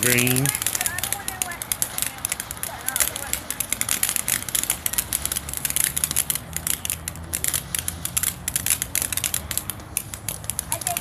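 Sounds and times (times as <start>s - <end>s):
firework fountain crackling: 0.0s - 11.0s.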